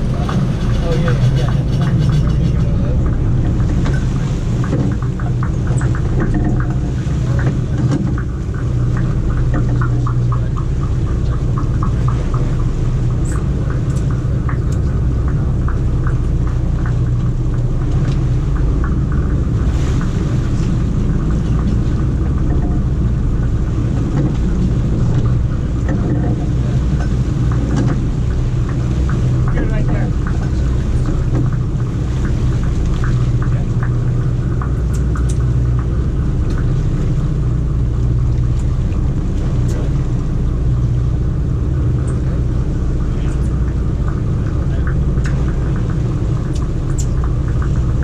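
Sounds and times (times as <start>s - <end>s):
boat engines humming: 0.0s - 48.0s
water rushing along hull: 0.0s - 48.0s.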